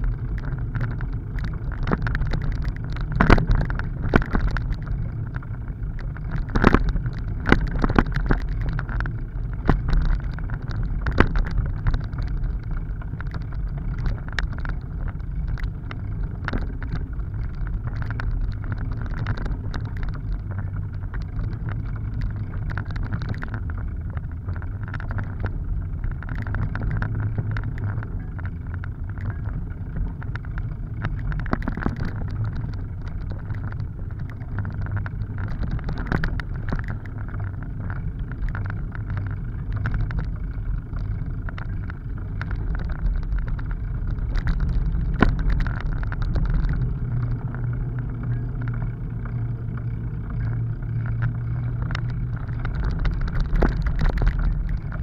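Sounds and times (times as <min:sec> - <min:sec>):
bicycle knocks and rattles: 0:00.0 - 0:55.0
bicycle tyres rumbling on dirt: 0:00.0 - 0:55.0.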